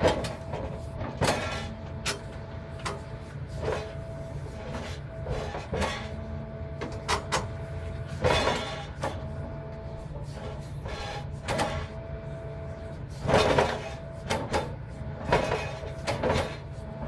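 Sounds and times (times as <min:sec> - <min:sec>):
excavator diesel engine whining: 0:00.0 - 0:17.0
metal clanks and scrapes: 0:00.0 - 0:17.0.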